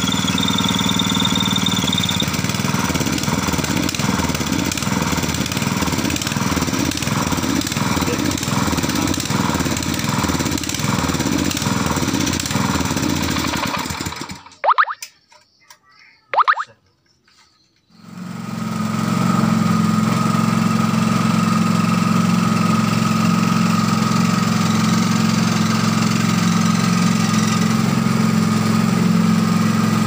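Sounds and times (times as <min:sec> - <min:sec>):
small water pump engine running: 0:00.0 - 0:14.8, 0:18.0 - 0:30.0.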